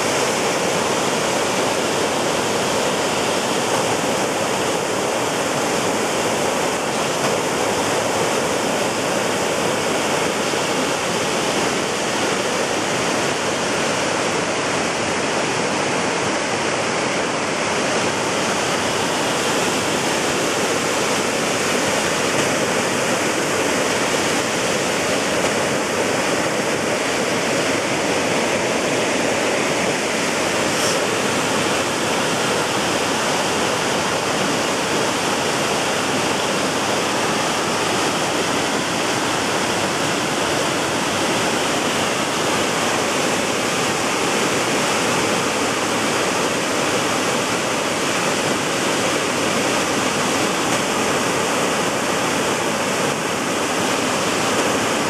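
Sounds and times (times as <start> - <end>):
waterfall rushing over boulders: 0.0 - 55.0.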